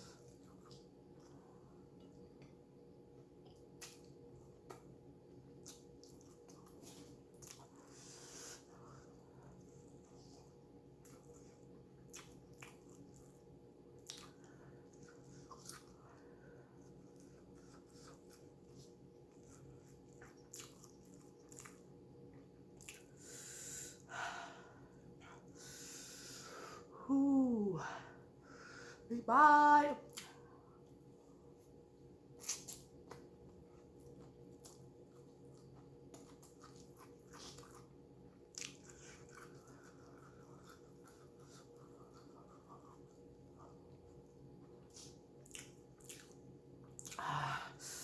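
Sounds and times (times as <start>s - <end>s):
chewing with mouth clicks: 0.0s - 23.2s, 30.1s - 47.3s.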